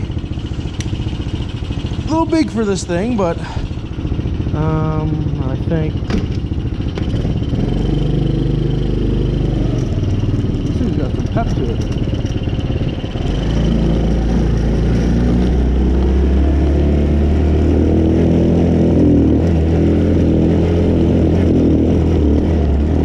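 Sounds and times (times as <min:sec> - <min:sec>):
small four-stroke engine running: 0:00.0 - 0:23.0.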